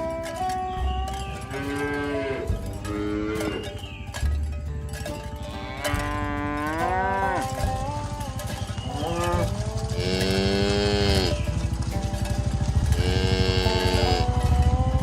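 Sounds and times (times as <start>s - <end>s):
cattle mooing: 0.0s - 3.8s, 5.2s - 15.0s.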